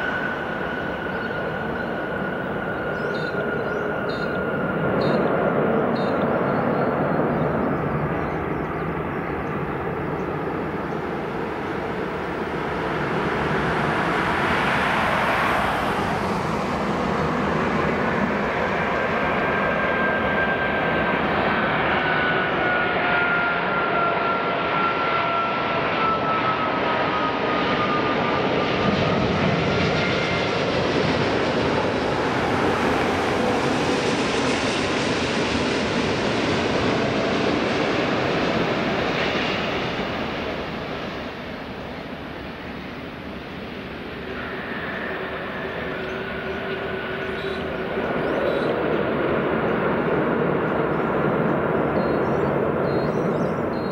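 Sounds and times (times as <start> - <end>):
jet airliner rumble and whine: 0.0 - 53.9.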